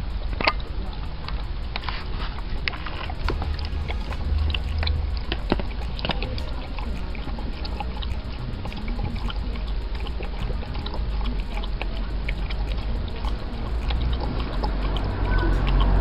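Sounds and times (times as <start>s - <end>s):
dog lapping water: 0.4s - 16.0s.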